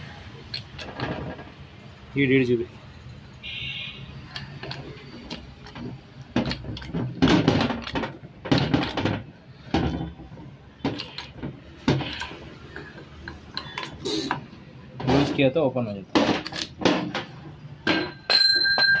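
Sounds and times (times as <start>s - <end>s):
metal clanks and knocks: 0.5s - 1.6s, 4.3s - 19.0s.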